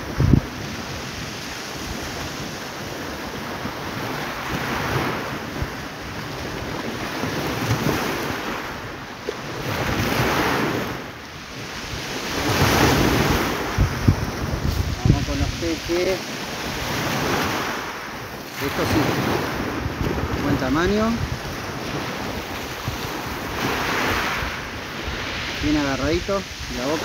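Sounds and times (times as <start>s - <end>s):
small waves breaking on shore: 0.0s - 27.0s
wind buffeting microphone: 0.0s - 27.0s.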